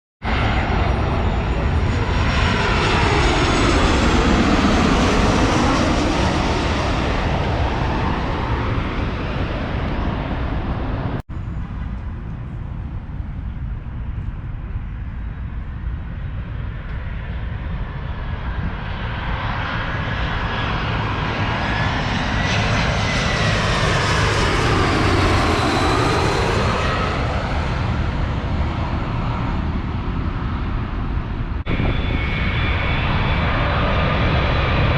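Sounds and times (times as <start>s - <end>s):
jet airliners passing overhead: 0.2s - 34.9s.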